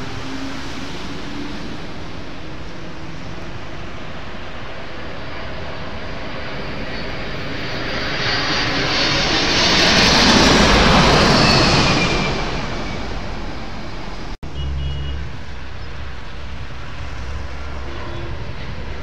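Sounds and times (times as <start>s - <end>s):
jet engines passing overhead: 0.0s - 19.0s.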